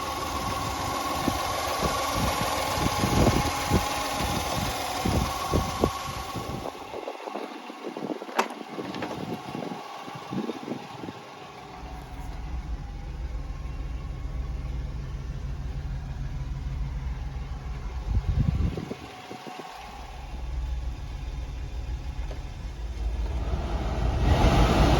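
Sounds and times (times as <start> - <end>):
small truck engine idling: 0.0 - 24.9.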